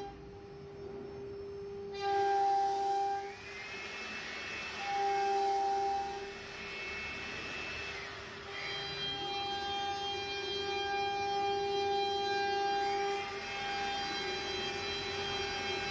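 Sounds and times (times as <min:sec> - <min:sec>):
higher sliding whine: 0:00.0 - 0:15.9
router spindle whining: 0:00.0 - 0:15.9.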